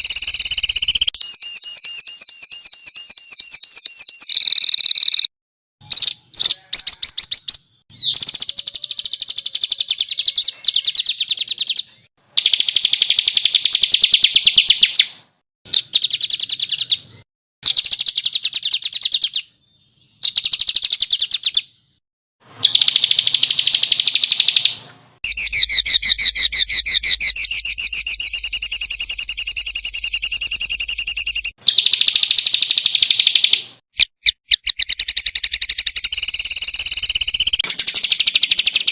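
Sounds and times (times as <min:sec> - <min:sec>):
songbird singing rapid trills: 0:00.0 - 0:21.7, 0:22.6 - 0:38.9.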